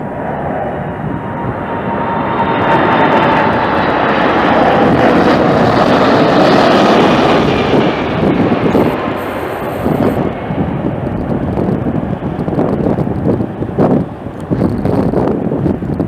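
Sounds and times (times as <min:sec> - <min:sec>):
jet airliner flying past: 0:00.0 - 0:16.0.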